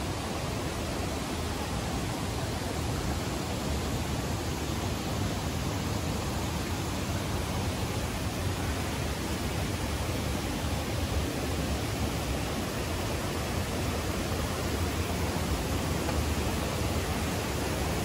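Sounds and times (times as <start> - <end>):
fast river rushing: 0.0 - 18.0.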